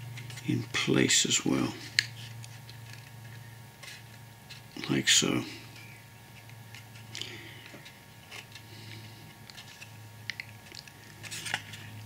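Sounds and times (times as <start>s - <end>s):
steady low hum: 0.0s - 12.0s
card rustling: 1.5s - 12.0s.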